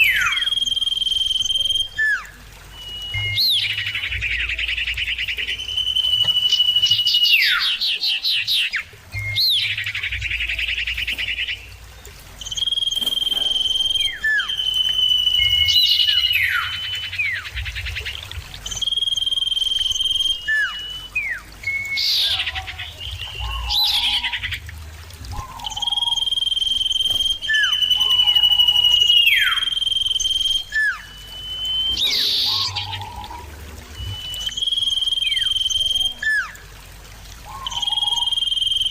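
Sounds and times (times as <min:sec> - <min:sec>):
birds whistling calls: 0:00.0 - 0:38.9.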